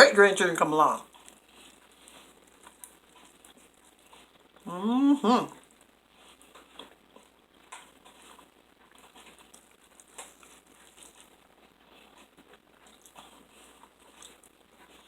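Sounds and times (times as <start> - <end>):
soft chewing: 1.0 - 15.0.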